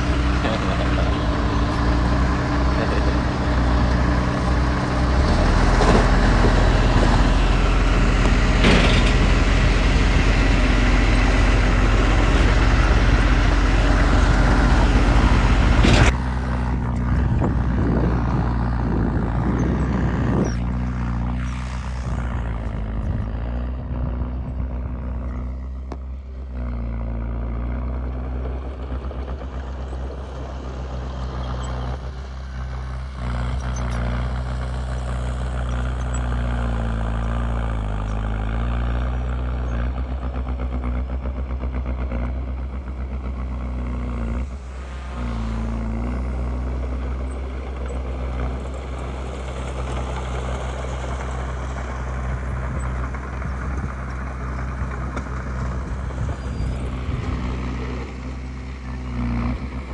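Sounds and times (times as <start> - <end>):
diesel engine of heavy machinery: 0.0 - 59.9.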